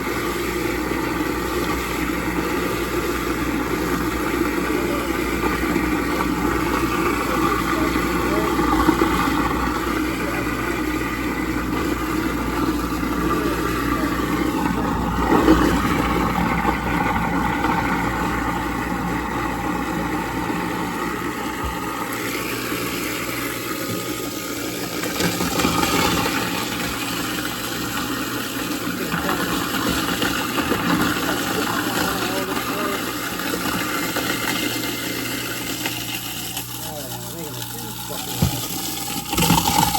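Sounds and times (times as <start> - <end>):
garbage disposal grinding ice: 0.0 - 39.9.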